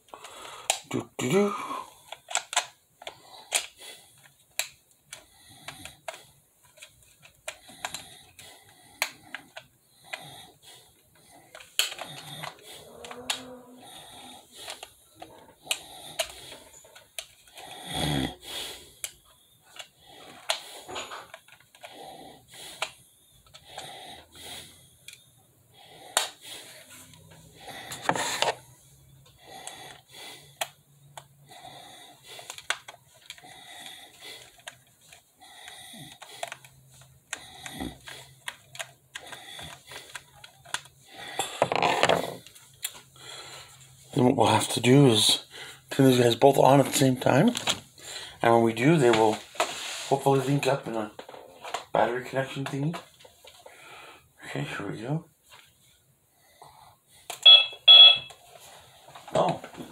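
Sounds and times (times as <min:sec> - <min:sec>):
man breathing: 0:00.0 - 0:02.4, 0:03.0 - 0:06.9, 0:07.5 - 0:44.2, 0:45.0 - 0:46.1, 0:47.9 - 0:50.1, 0:53.4 - 0:54.5, 0:55.5 - 0:57.3.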